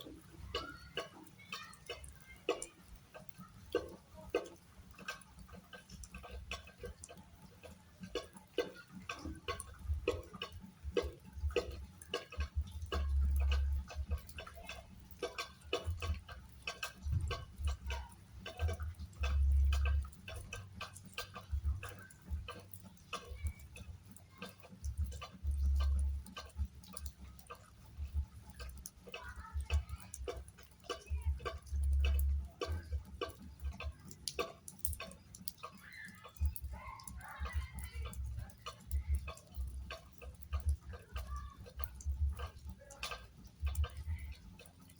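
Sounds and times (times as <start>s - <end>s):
rain dripping: 0.0s - 44.9s.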